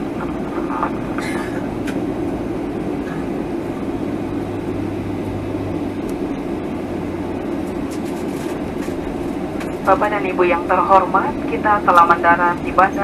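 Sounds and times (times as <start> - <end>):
low hum: 0.0 - 13.0
plane cabin rumble: 0.0 - 13.0.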